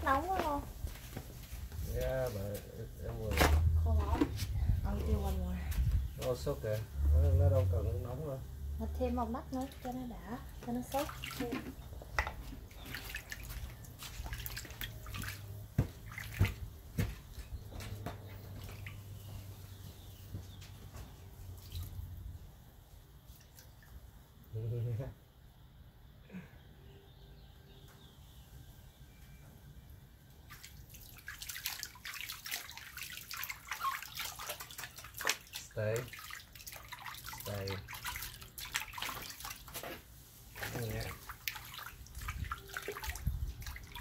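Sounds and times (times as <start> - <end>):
water splashing and dripping: 0.0 - 19.8, 21.4 - 24.4, 30.3 - 44.0.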